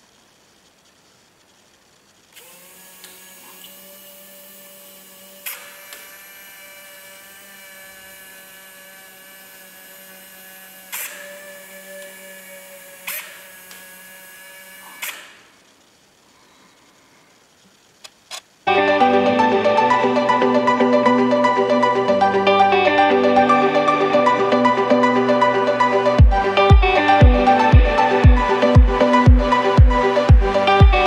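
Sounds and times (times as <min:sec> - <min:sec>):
small motor whine: 0:00.0 - 0:31.0.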